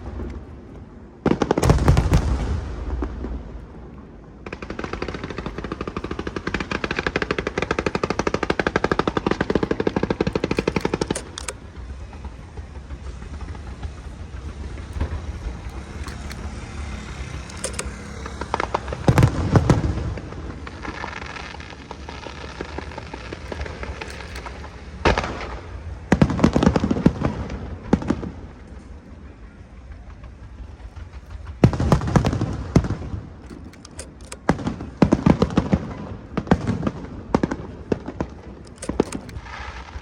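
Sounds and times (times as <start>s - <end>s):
fireworks crackling: 0.0s - 33.4s, 34.0s - 40.0s
firework bursts: 0.1s - 29.2s, 29.8s - 33.4s, 34.1s - 40.0s.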